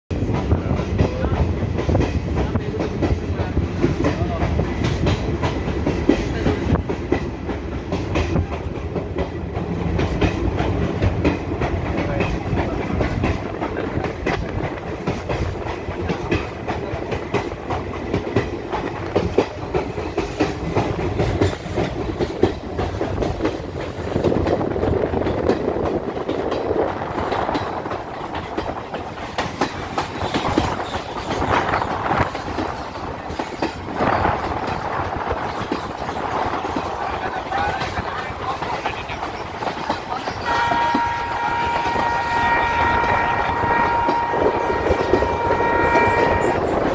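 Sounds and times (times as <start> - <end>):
clickety-clack of wheels: 0.1 - 46.9
train coaches rumbling: 0.1 - 46.9.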